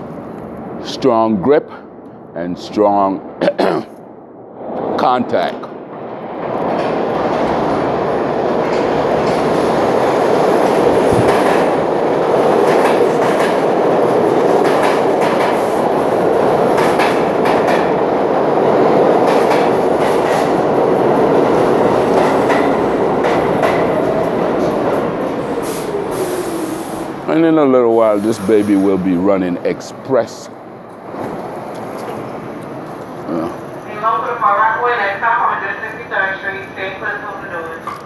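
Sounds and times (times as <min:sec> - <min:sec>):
train wheels rumbling on rail: 0:04.5 - 0:38.0.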